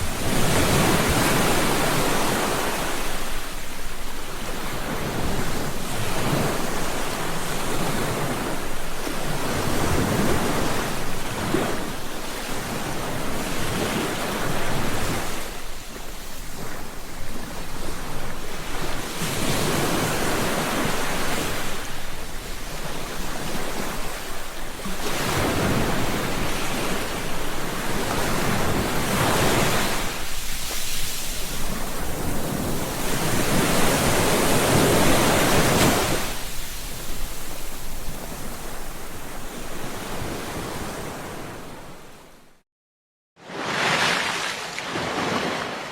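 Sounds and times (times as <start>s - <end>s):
ocean waves breaking on beach: 0.0s - 42.4s, 43.4s - 45.9s.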